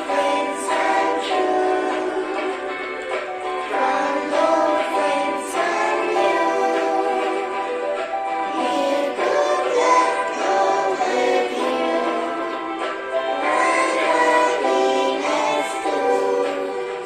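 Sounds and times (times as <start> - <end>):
group of voices singing: 0.0 - 17.0
music: 0.0 - 17.0.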